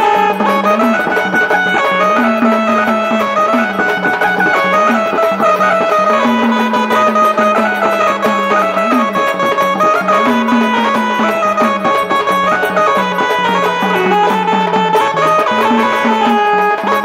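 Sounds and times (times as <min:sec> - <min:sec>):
instrumental folk music: 0:00.0 - 0:17.0.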